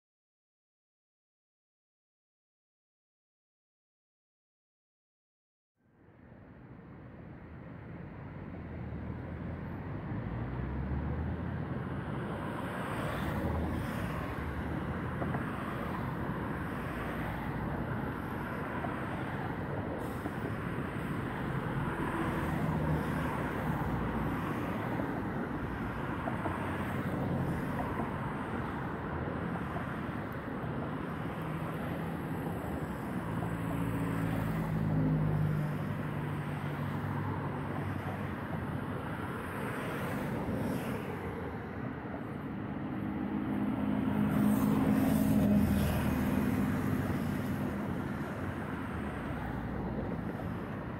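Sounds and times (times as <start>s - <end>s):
city traffic noise: 5.8s - 50.9s.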